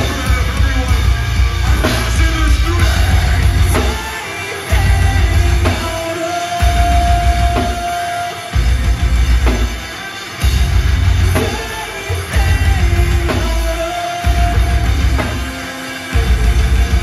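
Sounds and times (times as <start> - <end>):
metal band playing heavy riff: 0.0 - 17.0.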